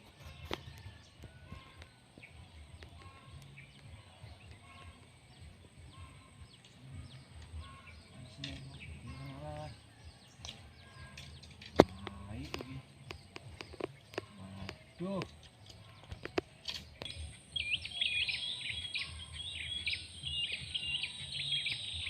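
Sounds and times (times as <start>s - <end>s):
low full bird call: 0.1s - 22.0s.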